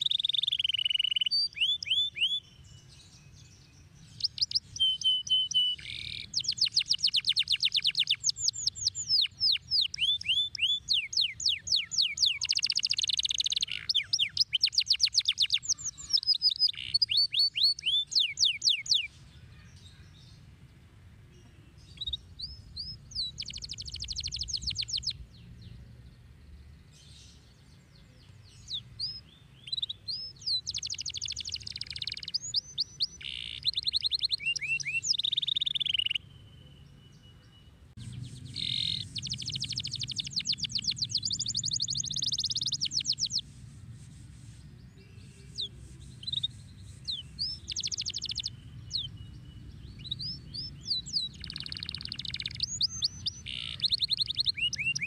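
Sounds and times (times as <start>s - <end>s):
canary singing trills: 0.0s - 20.8s, 21.4s - 43.5s, 44.8s - 55.0s.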